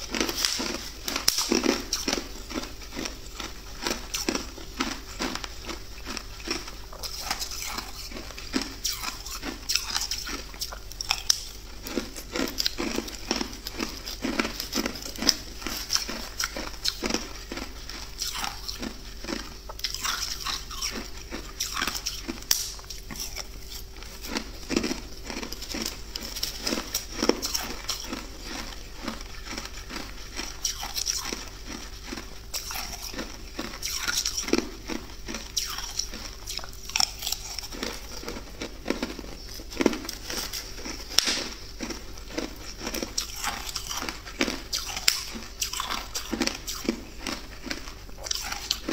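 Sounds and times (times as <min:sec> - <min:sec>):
chewing crunchy ice: 0:00.0 - 0:48.9.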